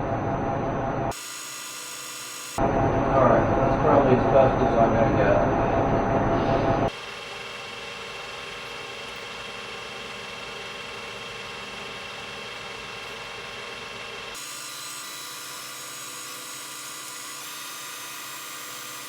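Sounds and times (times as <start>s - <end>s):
machine motor running with whine: 0.0s - 19.0s.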